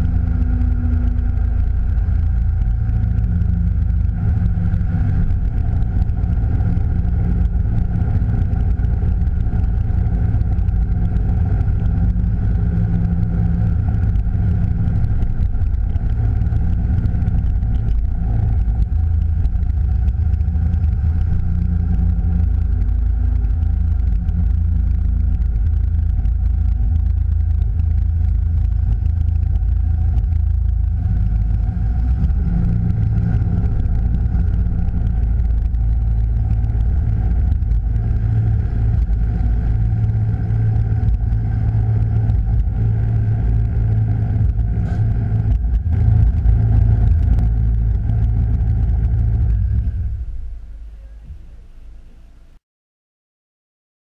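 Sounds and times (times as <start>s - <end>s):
car engine deep rumble: 0.0s - 52.6s.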